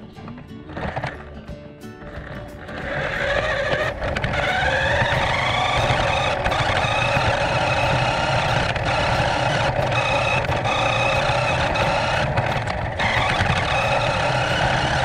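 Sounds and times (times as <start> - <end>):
electric motor and gearbox whirring: 0.2 - 15.0.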